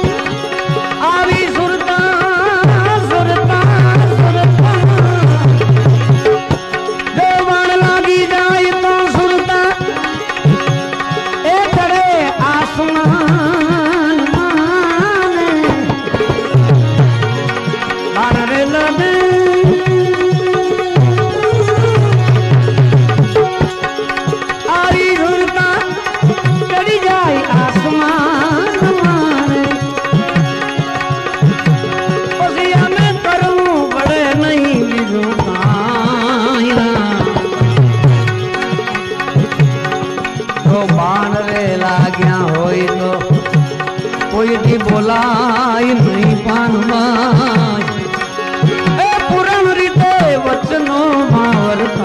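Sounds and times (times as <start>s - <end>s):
hand drums: 0.0s - 52.0s
ornamented instrumental melody: 0.0s - 52.0s.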